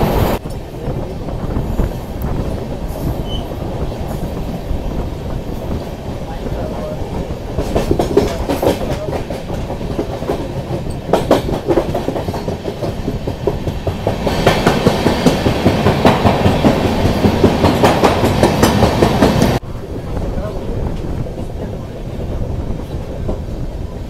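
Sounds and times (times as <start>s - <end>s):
train wheels clattering over rails: 0.0s - 19.6s
train rumble: 0.0s - 24.0s.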